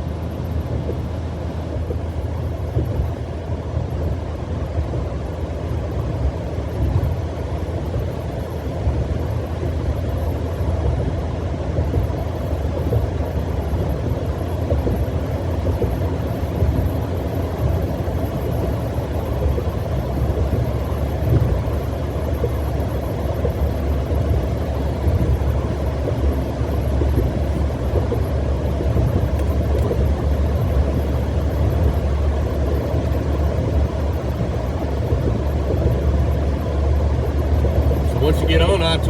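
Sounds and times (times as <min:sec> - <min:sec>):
car cabin tyre and engine rumble: 0:00.0 - 0:39.0.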